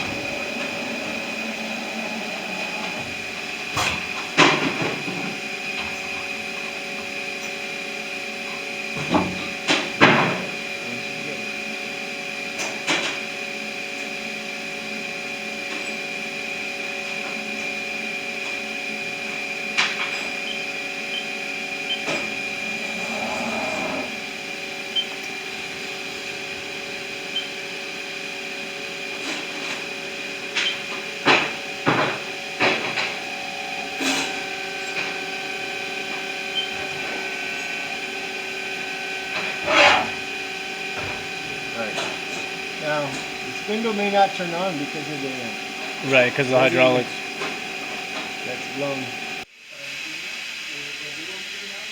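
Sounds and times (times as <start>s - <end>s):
lathe humming: 0.0s - 49.5s.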